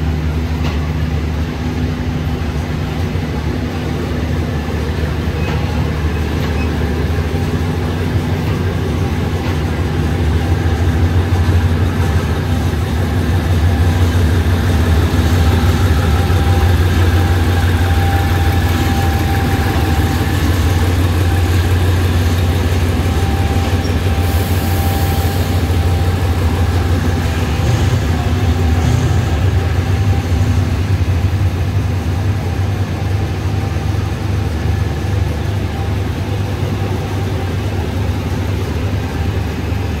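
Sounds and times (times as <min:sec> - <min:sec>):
locomotive diesel engine rumble: 0:00.0 - 0:40.0.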